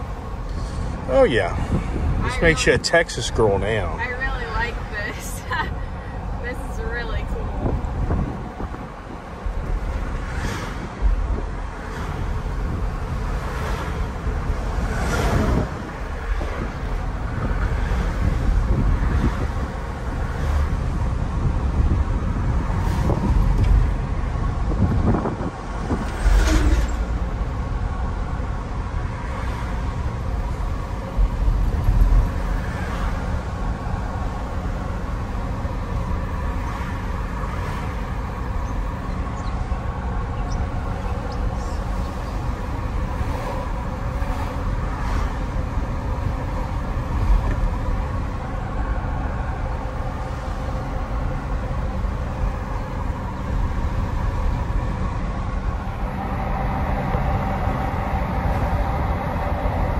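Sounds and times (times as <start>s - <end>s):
engine and tyre rumble: 0.0s - 59.9s.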